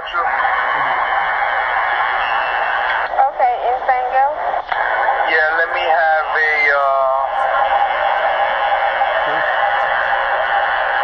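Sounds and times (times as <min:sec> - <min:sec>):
radio static hiss: 0:02.0 - 0:11.0.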